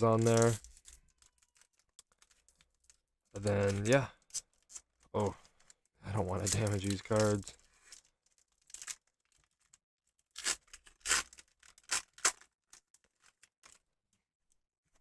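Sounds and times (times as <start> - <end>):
foil wrapper tearing: 0.0 - 4.8, 6.4 - 13.8
foil crinkling: 0.0 - 13.9.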